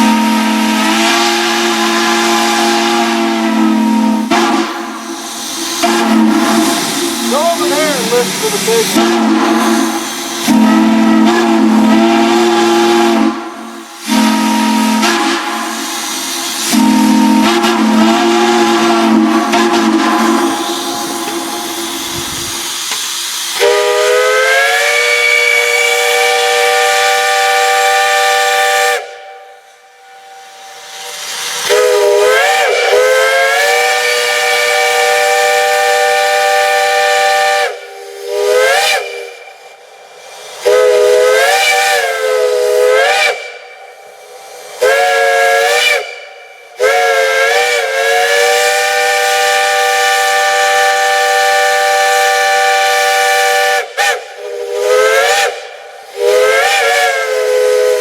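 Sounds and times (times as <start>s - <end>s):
steam whistle chord blasts: 0.0s - 58.0s.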